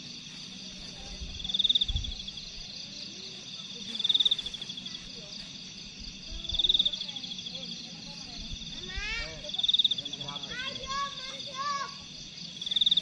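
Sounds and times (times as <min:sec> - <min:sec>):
insect fast-pulsed trill: 0:01.2 - 0:13.0.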